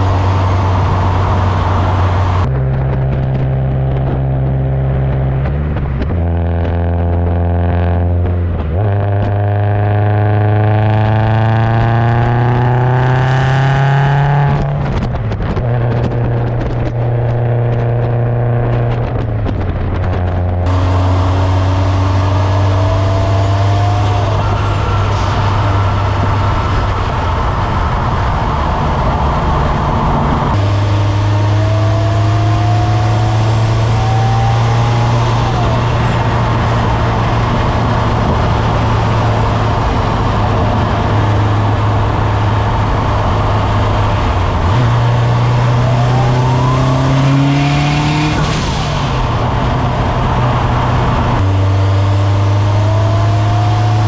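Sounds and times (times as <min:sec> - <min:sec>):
car engine revving: 0:00.0 - 0:54.0
exhaust drone: 0:00.0 - 0:54.0.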